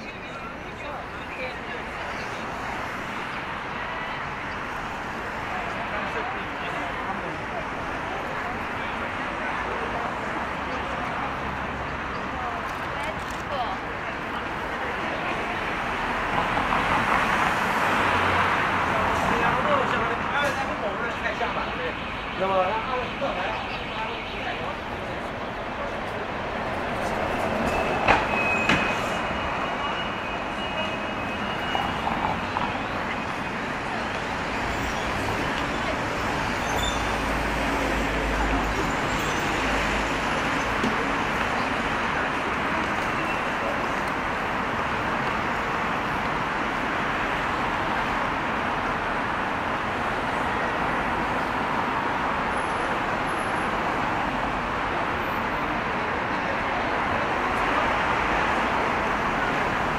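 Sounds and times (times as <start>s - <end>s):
crowd noise: 0.0s - 59.9s
traffic: 0.0s - 59.9s.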